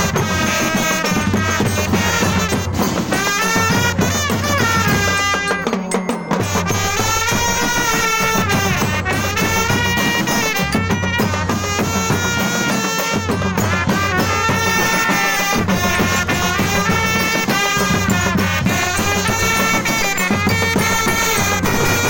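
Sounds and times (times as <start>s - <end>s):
folk melody with sliding notes: 0.0s - 22.0s
steady drum beat: 0.0s - 22.0s.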